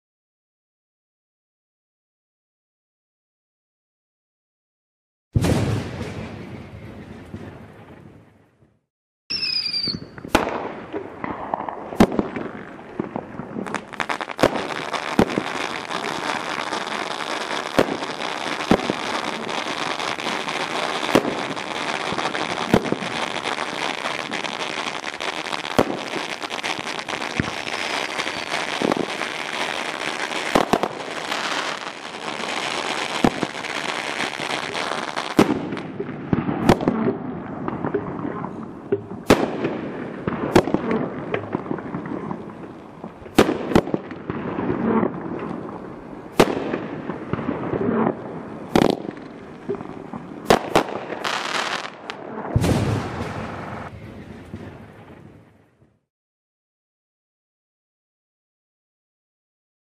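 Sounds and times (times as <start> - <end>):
fireworks bangs: 5.4 - 8.4, 9.3 - 55.5.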